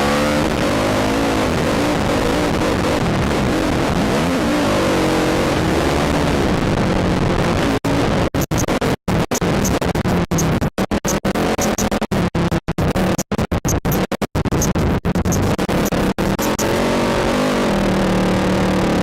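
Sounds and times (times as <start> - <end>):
stuttering music with a beat: 0.2 - 19.0.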